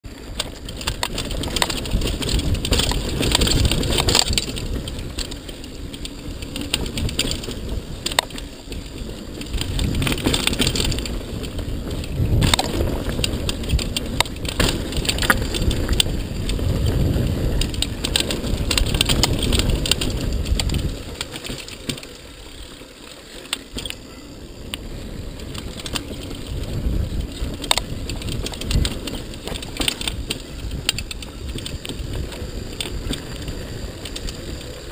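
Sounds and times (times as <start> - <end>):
bike clicks and rattles: 0.0 - 34.9
tyres on dirt: 0.0 - 34.9
wind on microphone: 0.2 - 22.6, 23.7 - 34.9.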